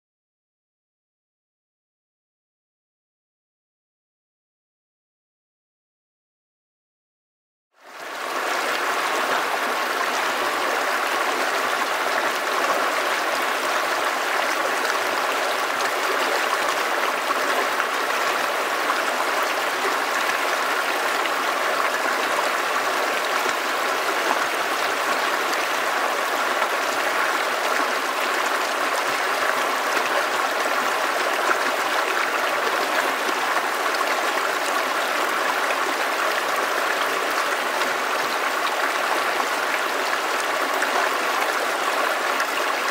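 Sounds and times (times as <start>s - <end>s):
creek running over rocks: 7.9s - 42.9s.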